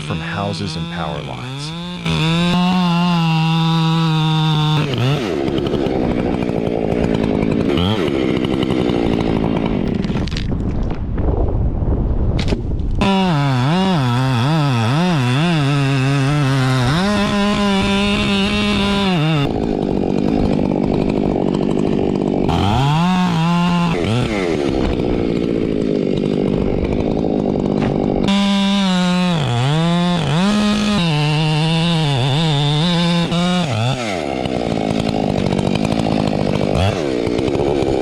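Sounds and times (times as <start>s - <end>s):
chainsaw engine revving: 0.0s - 10.6s, 12.4s - 38.0s
chainsaw cutting wood: 0.0s - 11.2s, 12.4s - 38.0s.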